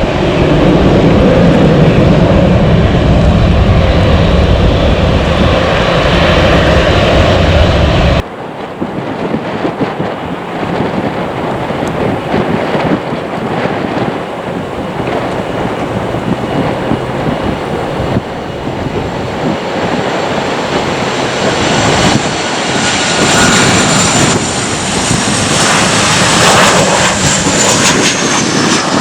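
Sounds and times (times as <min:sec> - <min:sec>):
jet engines roaring: 0:00.0 - 0:29.0
wind on microphone: 0:00.0 - 0:29.0.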